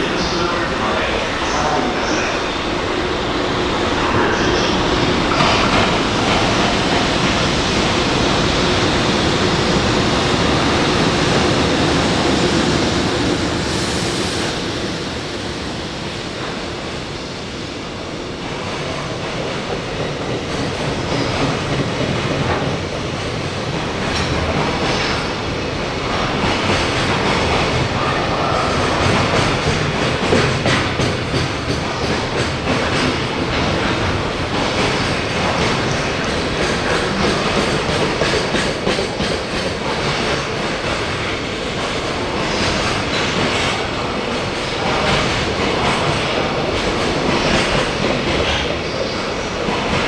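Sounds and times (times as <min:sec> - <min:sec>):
freight train rolling past: 0:00.0 - 0:50.0.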